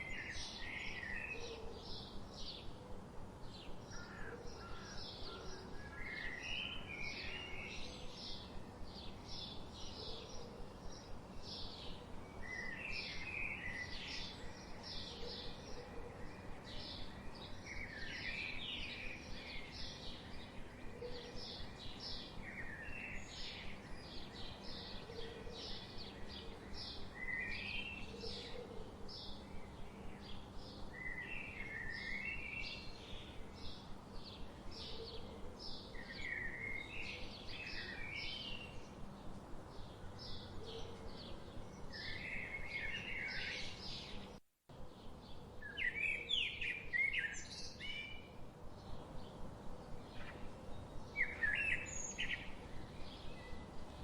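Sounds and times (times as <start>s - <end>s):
background hiss: 0.0s - 54.0s
songbirds chirping: 0.0s - 54.0s.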